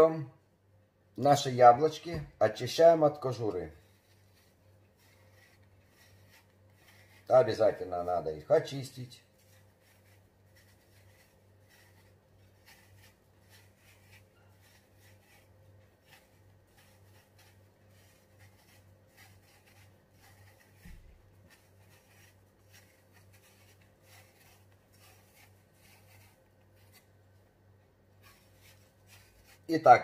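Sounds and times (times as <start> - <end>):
knife scraping apple skin: 3.3 - 27.3, 28.2 - 30.0.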